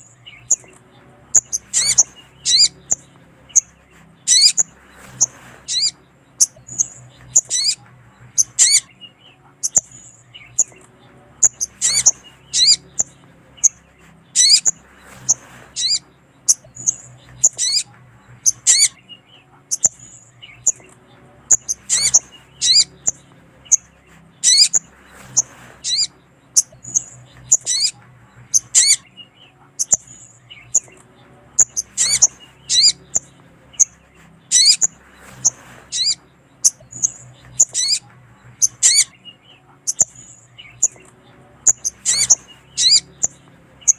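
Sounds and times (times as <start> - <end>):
bird high sweeping chirps: 0.0 - 43.9.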